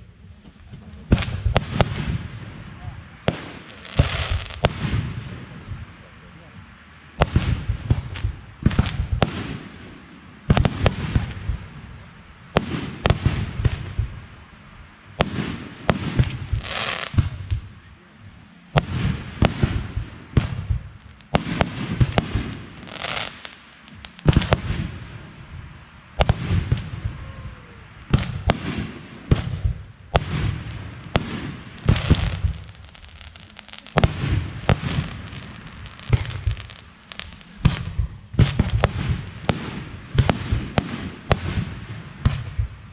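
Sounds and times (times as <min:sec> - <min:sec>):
fireworks bangs: 0:00.0 - 0:14.4, 0:15.1 - 0:42.9
fireworks crackling: 0:00.0 - 0:42.9.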